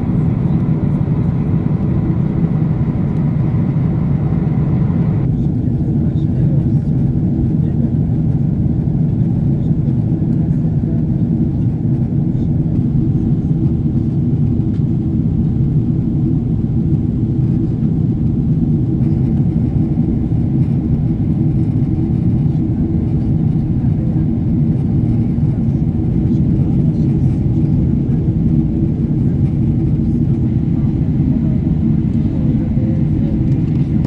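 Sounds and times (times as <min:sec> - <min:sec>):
airplane cabin drone: 0:00.0 - 0:34.0
jet engines rumbling: 0:00.0 - 0:34.0.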